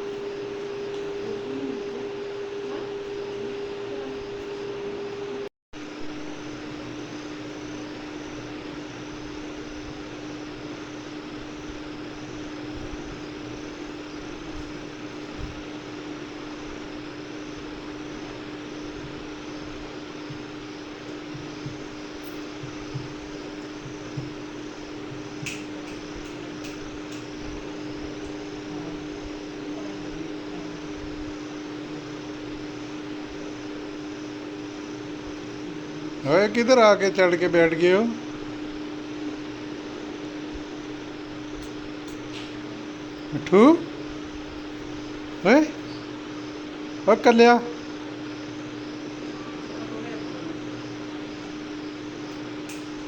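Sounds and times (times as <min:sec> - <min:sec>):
mechanical hum: 0:00.0 - 0:53.0.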